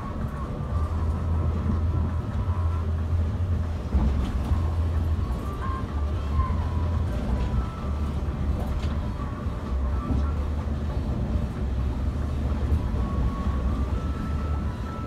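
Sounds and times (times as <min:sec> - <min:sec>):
coach engine drone: 0:00.0 - 0:15.0.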